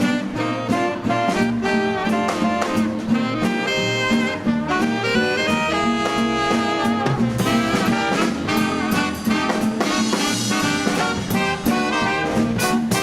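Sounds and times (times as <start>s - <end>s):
swing dance band playing: 0.0s - 13.0s.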